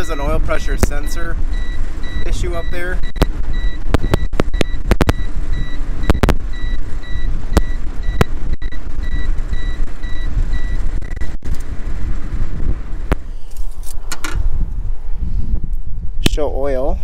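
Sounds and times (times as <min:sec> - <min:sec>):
engine and road noise: 0:00.0 - 0:17.0.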